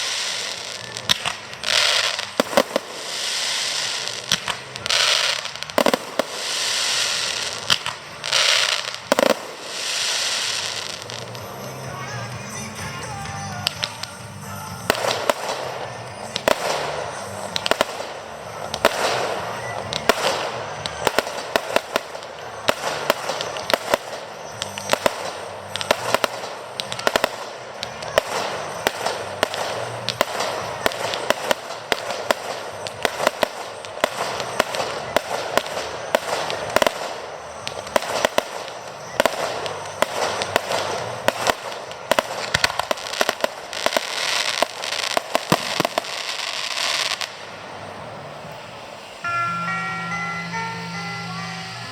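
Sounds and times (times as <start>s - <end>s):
fireworks bangs: 0.0s - 51.9s
fireworks crackling: 0.0s - 51.9s.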